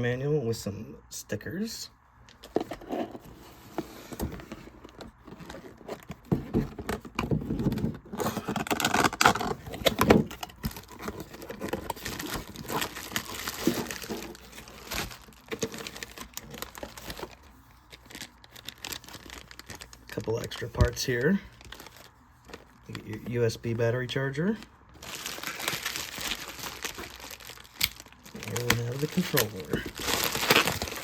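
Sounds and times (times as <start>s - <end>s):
plastic bags crinkling: 4.7s - 31.0s.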